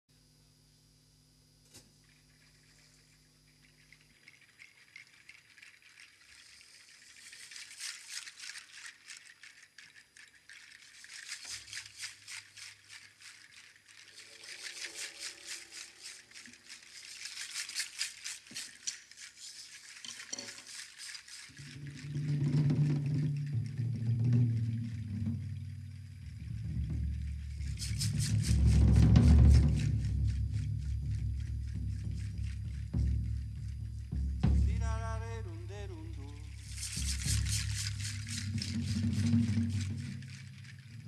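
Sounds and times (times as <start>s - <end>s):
shaken percussion rattle: 1.5s - 41.0s.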